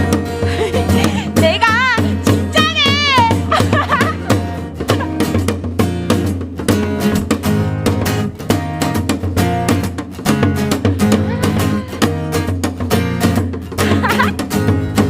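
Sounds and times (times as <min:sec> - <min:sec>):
plucked string instrument strumming: 0:00.0 - 0:15.0.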